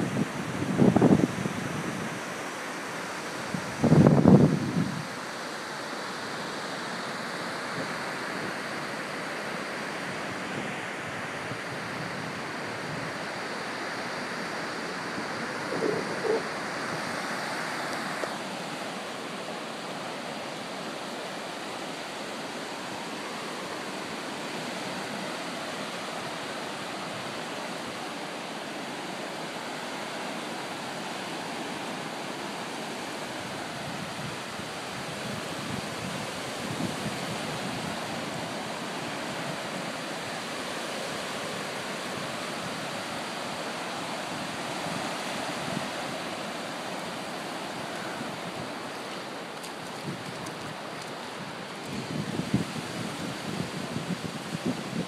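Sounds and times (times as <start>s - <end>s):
small surf washing up beach: 0.0s - 55.0s.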